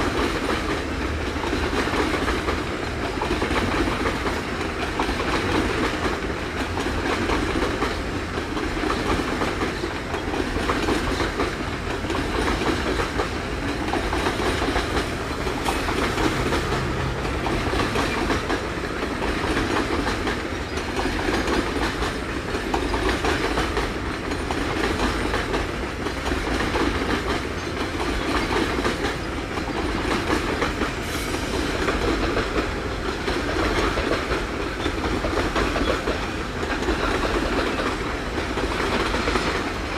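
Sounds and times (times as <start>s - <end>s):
freight train rolling past: 0.0s - 39.9s
wheels clattering over rail joints: 0.0s - 39.9s.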